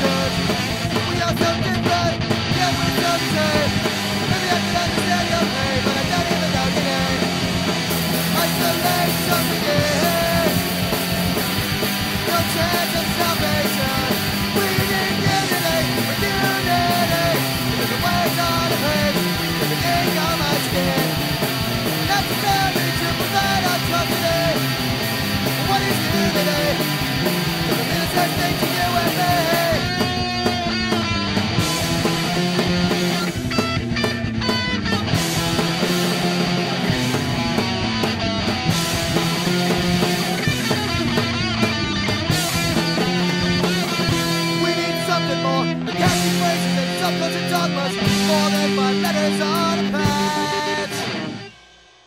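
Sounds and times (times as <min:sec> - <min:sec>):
punk rock band playing: 0:00.0 - 0:52.0.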